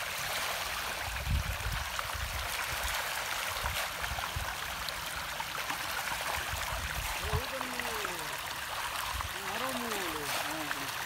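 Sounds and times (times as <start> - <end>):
pond water splashing and churning: 0.0 - 11.0.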